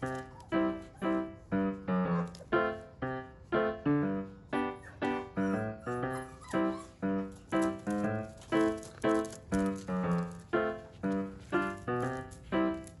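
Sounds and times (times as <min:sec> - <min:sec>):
light bouncy music: 0:00.0 - 0:13.0.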